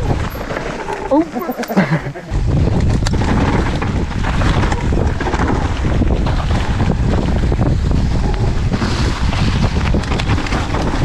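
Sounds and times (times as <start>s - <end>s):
bike rattling: 0.0s - 11.0s
wind rushing over microphone: 0.0s - 11.0s.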